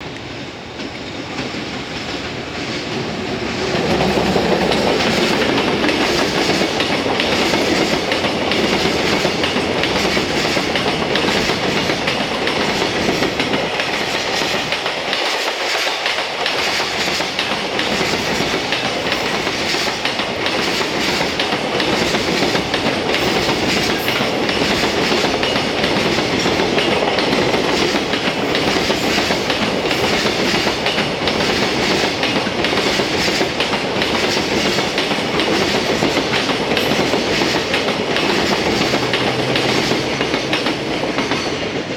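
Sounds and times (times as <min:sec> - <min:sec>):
freight train passing: 0:00.0 - 0:41.9.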